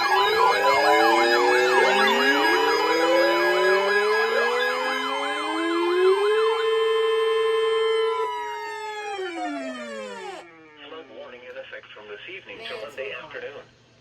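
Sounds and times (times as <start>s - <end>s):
steady alert tones: 0.0s - 11.2s
fast wailing siren tones: 0.0s - 11.4s.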